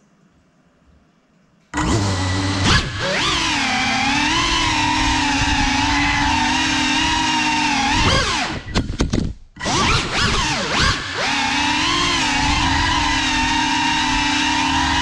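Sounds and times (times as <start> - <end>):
drone motors whining: 1.7 - 8.8, 9.6 - 15.0.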